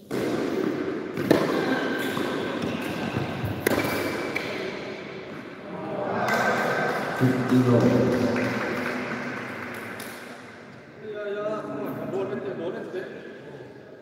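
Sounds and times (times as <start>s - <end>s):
steady hall background noise: 0.0s - 14.0s.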